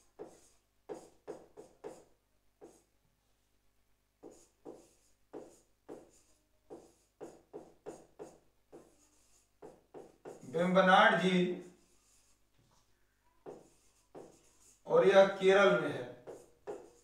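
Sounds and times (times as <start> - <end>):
writing strokes on a board: 0.0 - 3.0, 4.2 - 17.0.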